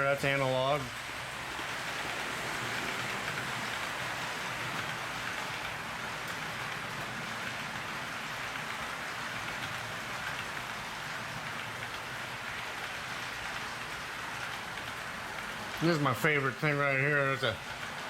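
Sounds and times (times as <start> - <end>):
model train wheels rolling on track: 0.0 - 18.0.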